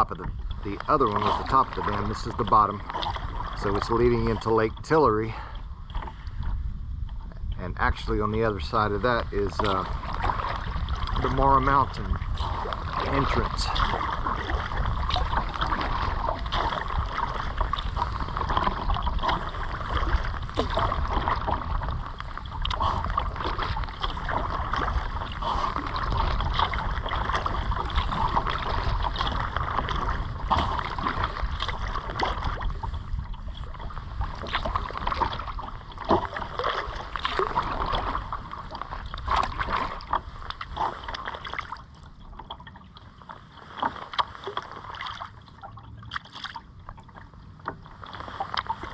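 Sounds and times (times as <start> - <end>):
moving water wash: 0.0 - 6.4, 7.4 - 48.9
paddle splashing in water: 0.0 - 6.6, 7.2 - 48.9
low rumble: 0.0 - 43.1.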